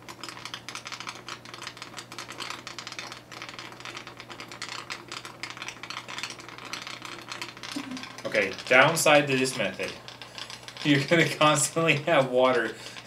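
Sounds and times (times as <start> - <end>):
air pump humming: 0.0 - 13.0.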